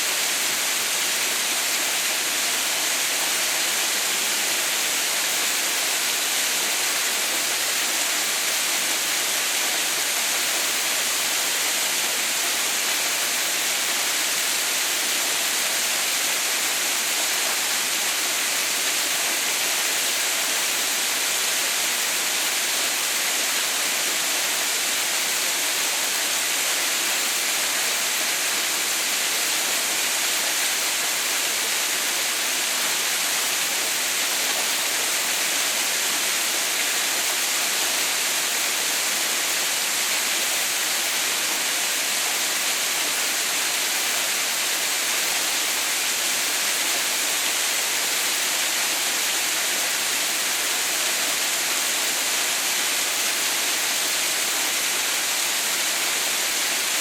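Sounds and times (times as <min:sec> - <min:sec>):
waterfall hiss: 0:00.0 - 0:57.0.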